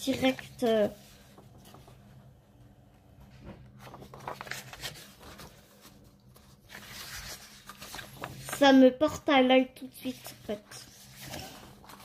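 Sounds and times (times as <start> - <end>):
paper rustling: 0.0 - 2.2, 3.3 - 9.2, 10.0 - 12.0.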